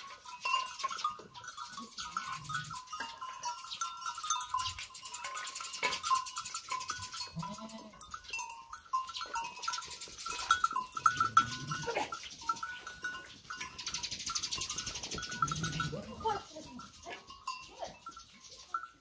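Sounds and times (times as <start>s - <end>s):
sheep and goats bleating: 0.0s - 13.9s, 14.8s - 18.2s.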